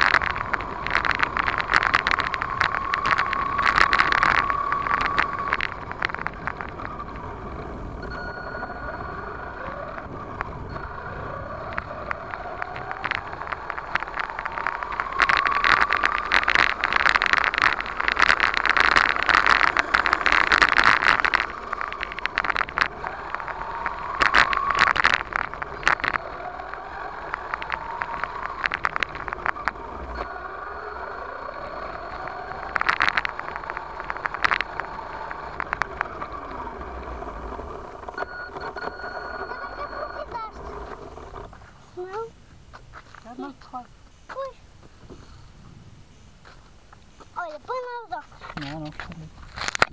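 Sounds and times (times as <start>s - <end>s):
toy truck motor whining: 0.0s - 42.3s
tyres rattling over dirt: 0.0s - 45.5s, 46.1s - 49.9s.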